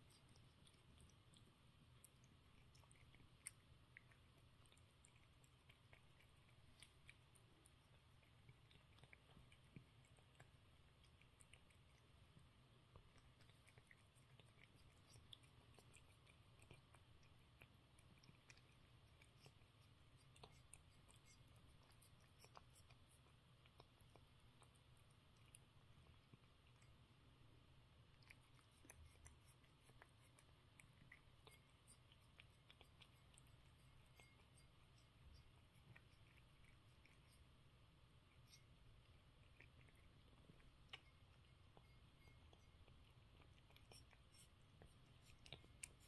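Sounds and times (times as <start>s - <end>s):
cat licking and chewing food: 0.0s - 46.0s.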